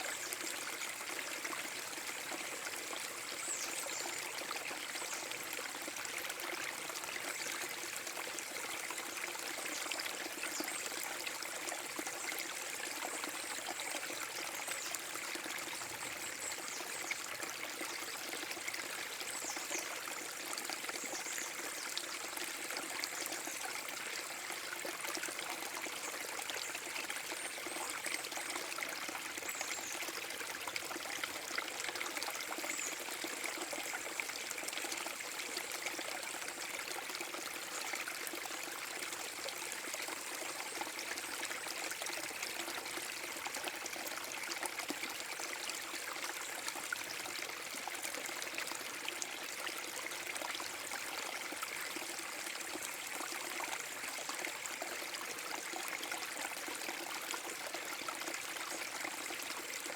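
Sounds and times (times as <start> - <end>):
small waterfall pouring: 0.0 - 59.9.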